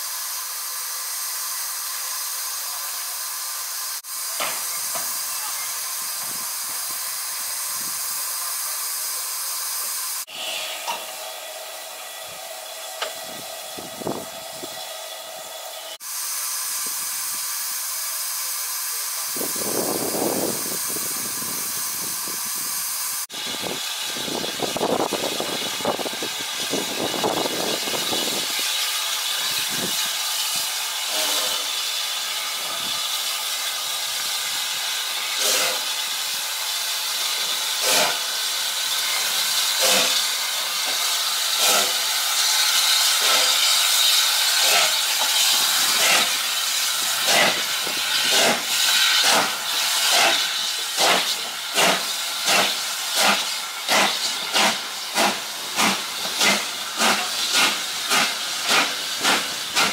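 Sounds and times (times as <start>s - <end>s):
steam hissing from cylinders: 0.0s - 59.9s
steam locomotive exhaust chuffs: 0.0s - 59.9s.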